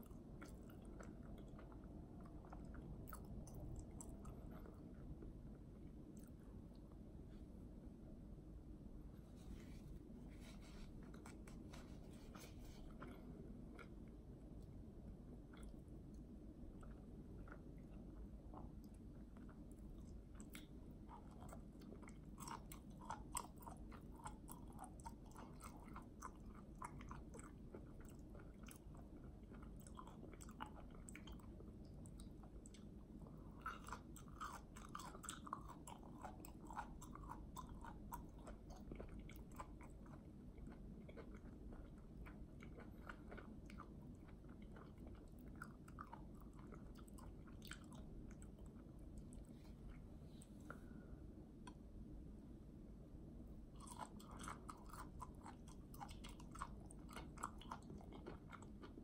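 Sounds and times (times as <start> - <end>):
person chewing food: 0.0 - 7.5, 9.4 - 51.0, 53.7 - 59.0.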